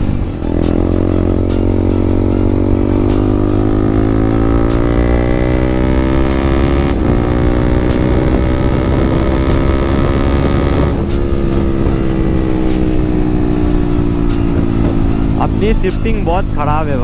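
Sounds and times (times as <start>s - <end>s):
motorcycle engine with loud exhaust: 0.0s - 17.0s.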